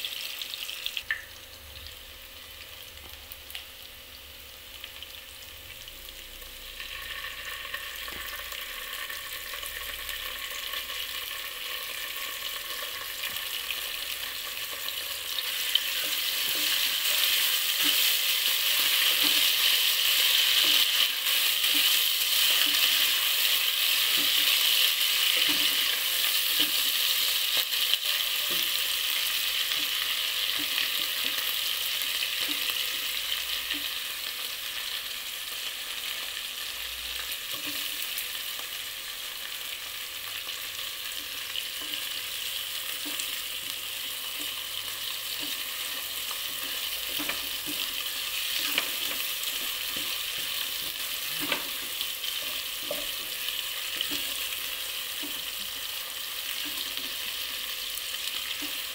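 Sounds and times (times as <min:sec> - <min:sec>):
food sizzling in hot oil: 0:00.0 - 0:58.9.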